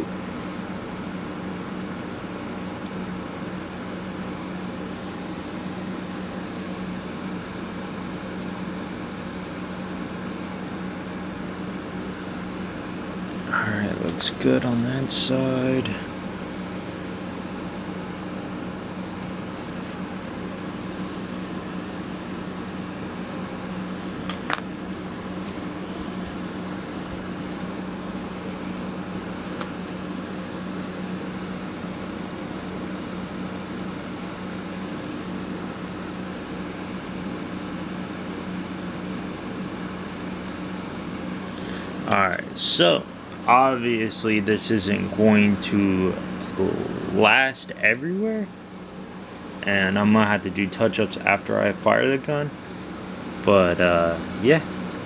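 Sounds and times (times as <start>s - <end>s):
air conditioner humming: 0.0s - 55.0s.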